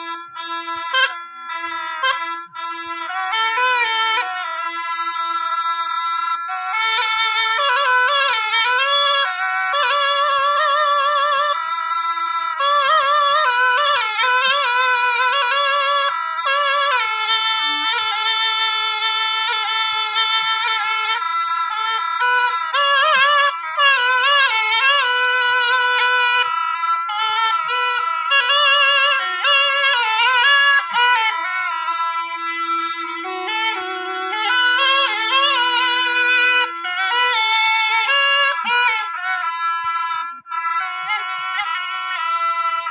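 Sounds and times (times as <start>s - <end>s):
reedy folk melody over drone: 0.0s - 42.9s.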